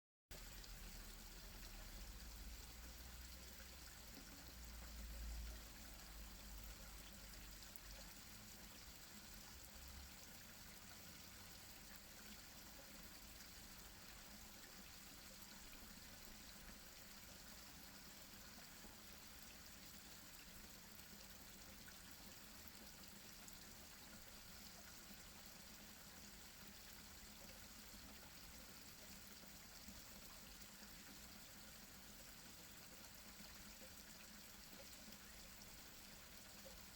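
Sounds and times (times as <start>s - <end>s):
faint trickling waterfall: 0.3s - 36.9s.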